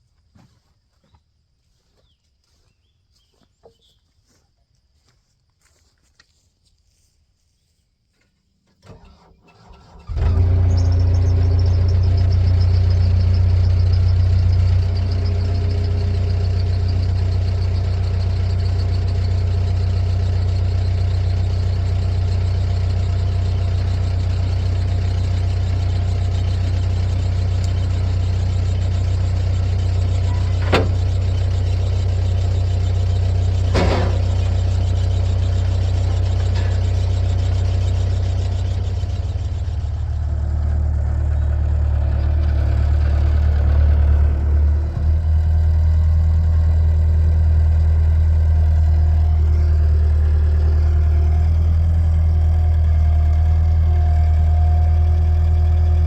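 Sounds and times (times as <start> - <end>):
engine cranking and idling: 8.8 - 56.0.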